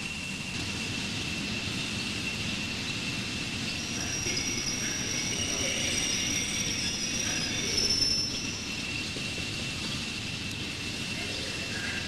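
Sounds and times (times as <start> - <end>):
train rumble: 0.0 - 12.0
train wheels squealing: 0.0 - 12.0.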